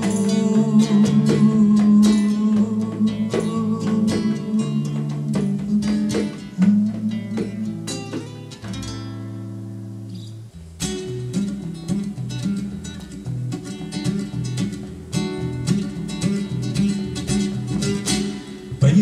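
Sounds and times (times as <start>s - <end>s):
strummed guitar chords: 0.0s - 10.0s, 10.8s - 19.0s.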